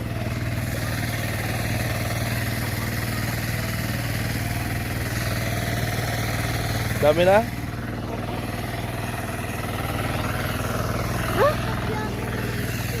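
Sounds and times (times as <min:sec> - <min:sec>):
hand tractor engine throbbing: 0:00.0 - 0:13.0.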